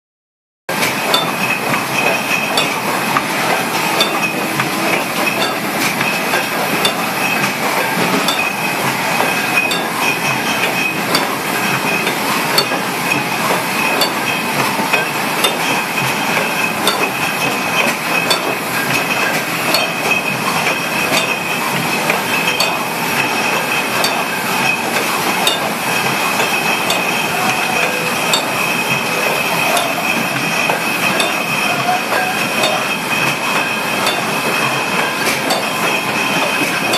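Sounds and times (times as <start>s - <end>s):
machine noise with high whine: 0.7s - 36.9s
glass bottles clinking: 1.0s - 17.5s, 18.1s - 21.4s, 22.0s - 36.9s.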